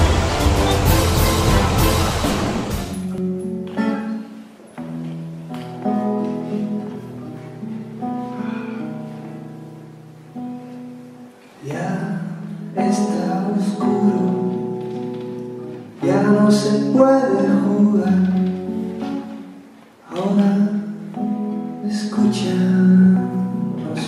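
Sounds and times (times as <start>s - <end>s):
guitar-led pop ballad: 2.9s - 24.0s.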